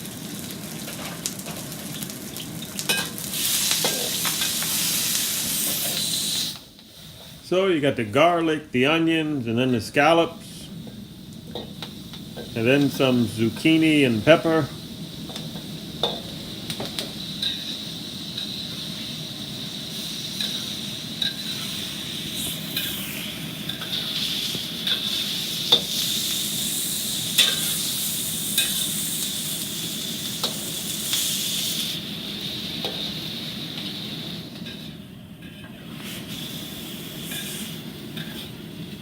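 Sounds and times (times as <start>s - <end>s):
food sizzling in a wok: 0.0s - 39.0s
utensil scraping a wok: 2.9s - 7.4s, 10.4s - 39.0s.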